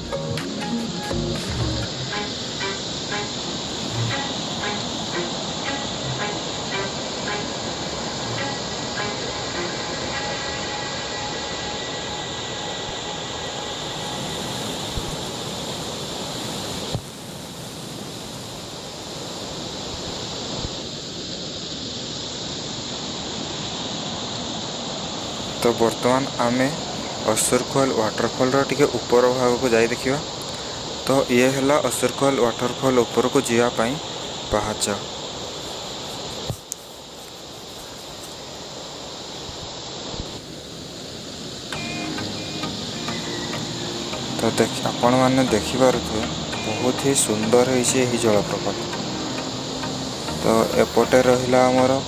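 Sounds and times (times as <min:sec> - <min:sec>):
waterfall rushing: 0:00.0 - 0:36.5, 0:38.5 - 0:52.0
insects buzzing: 0:00.0 - 0:52.0.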